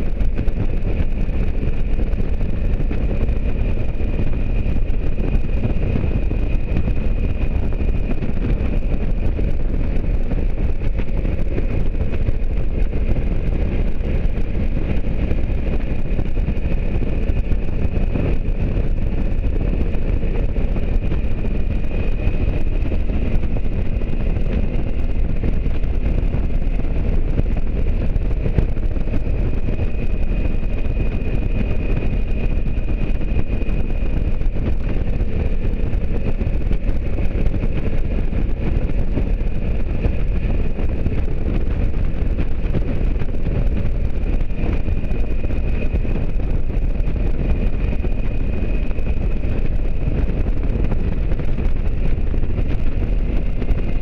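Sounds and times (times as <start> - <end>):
motorcycle engine drone: 0.0 - 54.0
wind rushing over microphone: 0.0 - 54.0.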